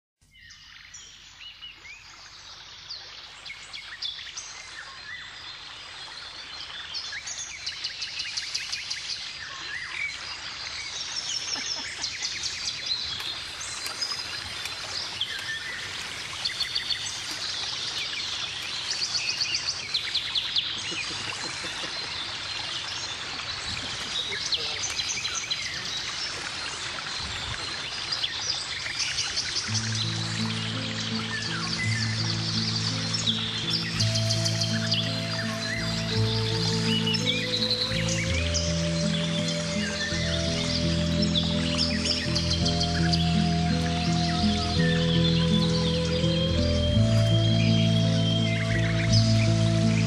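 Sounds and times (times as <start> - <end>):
songbirds singing and trilling: 0.2 - 50.0.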